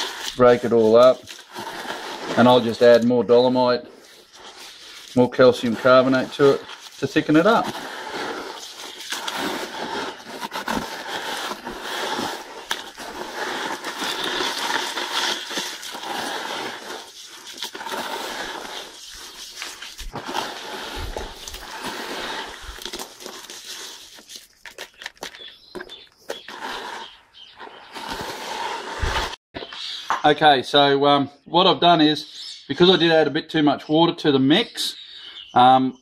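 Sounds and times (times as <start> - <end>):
hands mixing gritty mix in bucket: 0.0 - 29.4.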